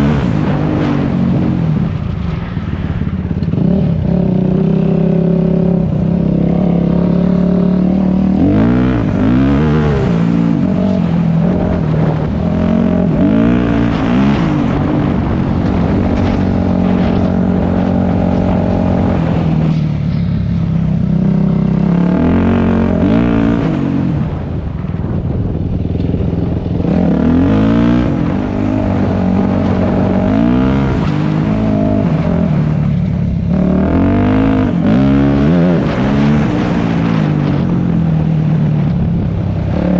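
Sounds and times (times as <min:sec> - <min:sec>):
dirt bike engine revving: 0:00.0 - 0:24.9, 0:25.9 - 0:38.9.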